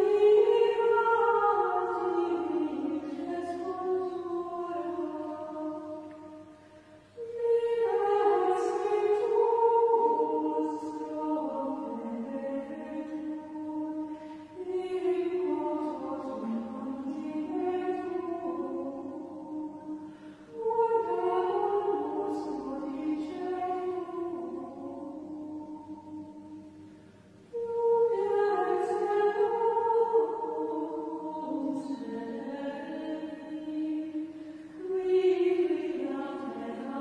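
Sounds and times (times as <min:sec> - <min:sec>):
women's choir chanting: 0:00.0 - 0:06.4, 0:07.2 - 0:26.7, 0:27.5 - 0:37.0.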